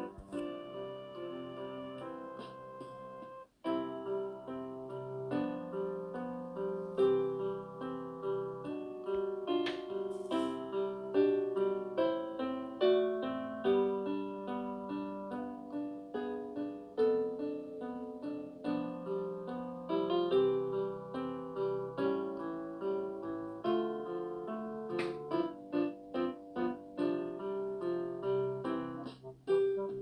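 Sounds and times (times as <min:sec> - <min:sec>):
piano-style keyboard melody: 0:00.0 - 0:30.0.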